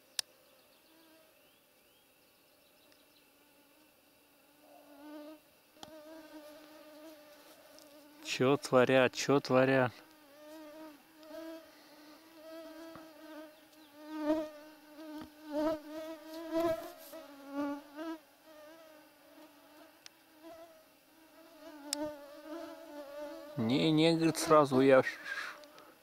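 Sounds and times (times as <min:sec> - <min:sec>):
insect buzzing: 0:00.0 - 0:26.0.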